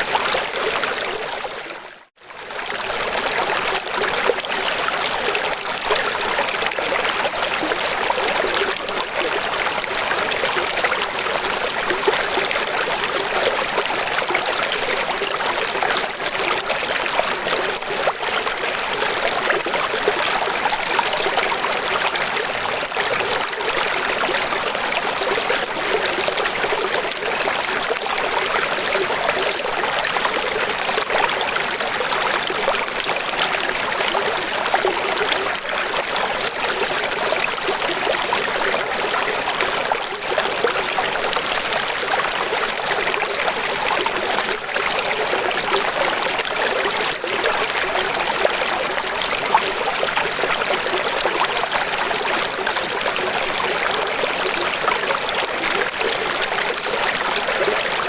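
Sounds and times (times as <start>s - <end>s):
stream water rushing: 2.6s - 58.0s.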